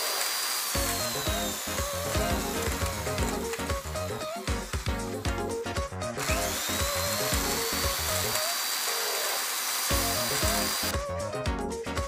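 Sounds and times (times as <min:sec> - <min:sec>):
power tool whining on wood: 0:00.0 - 0:05.2, 0:06.2 - 0:11.0
background music with a beat: 0:00.8 - 0:08.4, 0:09.9 - 0:12.0.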